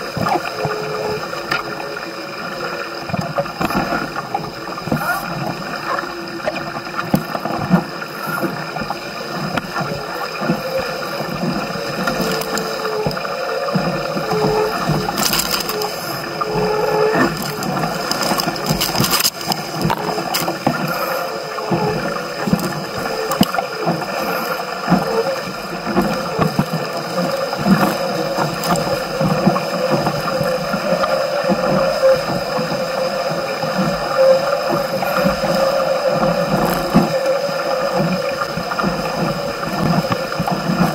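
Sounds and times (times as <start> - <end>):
water splashing along hull: 0.0 - 40.9.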